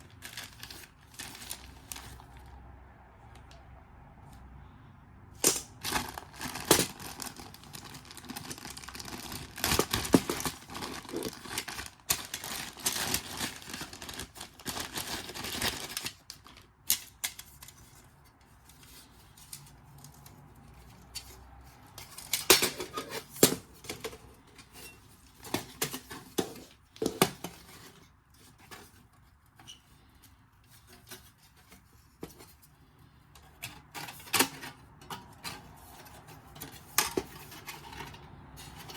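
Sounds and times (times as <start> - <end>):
rustling and crinkling: 0.0 - 2.6, 5.4 - 38.9.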